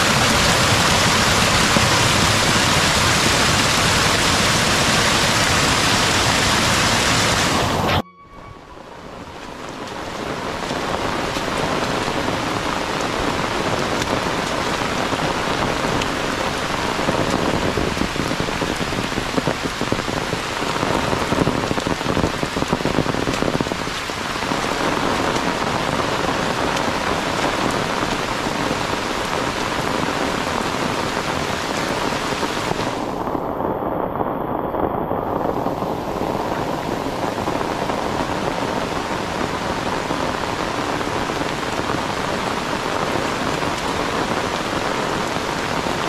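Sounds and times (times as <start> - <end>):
heavy rain on foliage: 0.0 - 8.0, 8.7 - 46.0.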